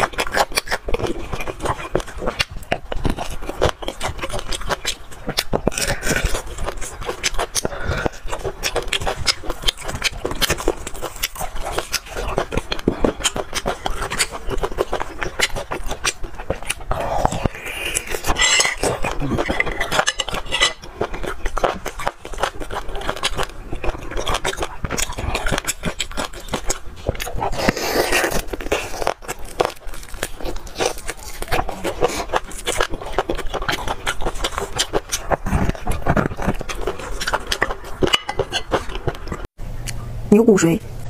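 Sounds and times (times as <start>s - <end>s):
wet chewing and smacking: 0.0s - 40.1s.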